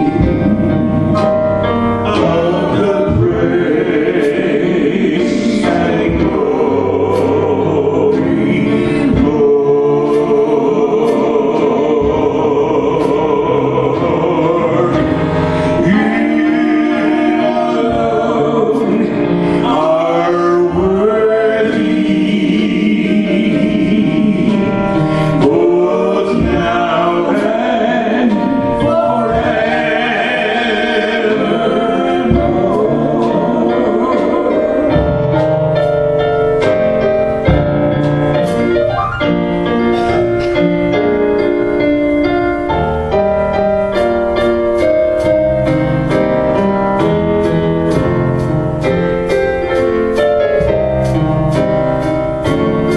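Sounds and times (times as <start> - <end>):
people singing worship song: 0.0 - 52.9
piano: 0.0 - 52.9.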